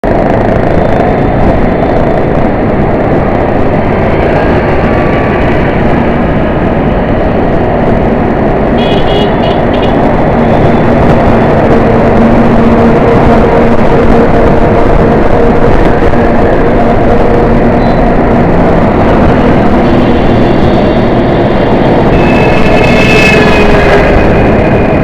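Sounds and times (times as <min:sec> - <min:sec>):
dense road traffic: 0:00.0 - 0:25.0.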